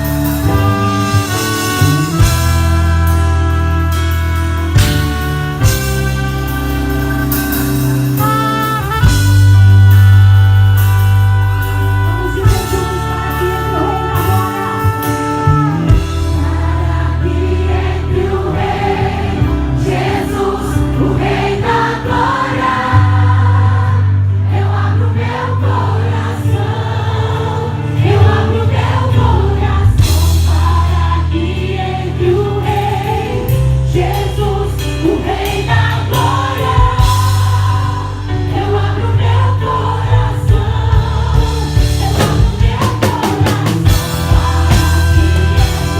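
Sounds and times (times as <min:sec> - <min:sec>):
band with strong bass line: 0:00.0 - 0:45.9
choir singing gospel: 0:00.0 - 0:45.9.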